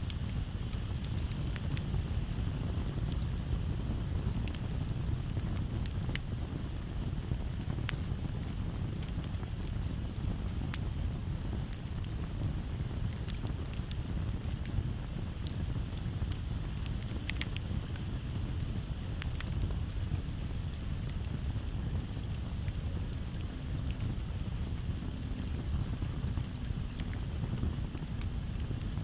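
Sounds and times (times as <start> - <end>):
campfire crackling and popping: 0.0 - 29.0
crickets chirring: 0.1 - 29.0.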